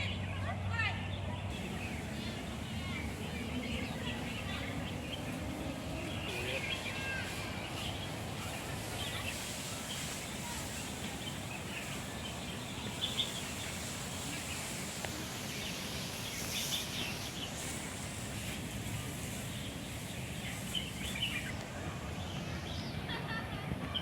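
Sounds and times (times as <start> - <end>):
outdoor background hiss: 0.0 - 24.0
small birds chirping: 0.0 - 24.0.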